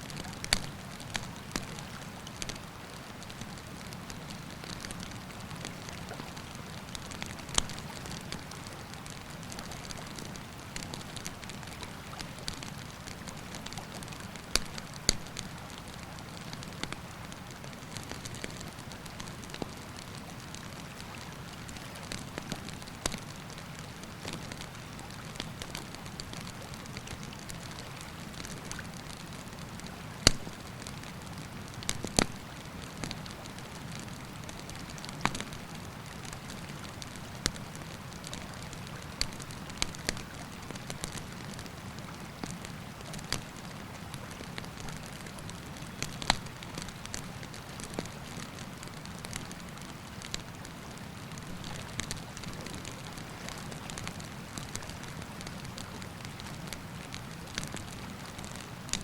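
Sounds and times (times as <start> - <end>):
campfire crackling and popping: 0.1 - 59.0.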